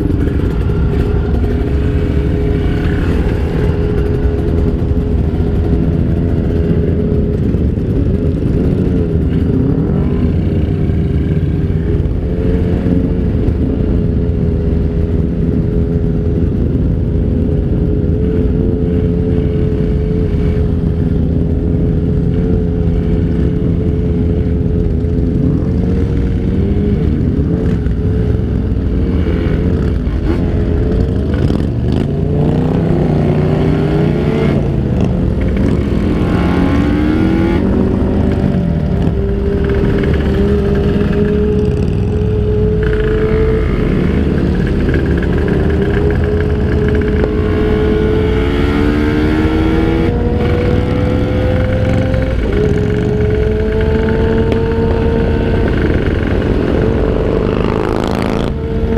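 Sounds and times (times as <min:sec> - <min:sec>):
two-stroke motorcycle engine running: 0:00.0 - 0:58.9.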